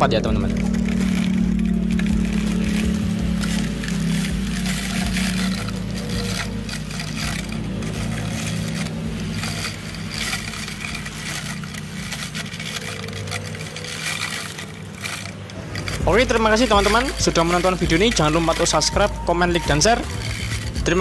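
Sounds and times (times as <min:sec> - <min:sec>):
blade scraping through grass: 0:00.0 - 0:21.0
small electric motor hum: 0:00.0 - 0:21.0.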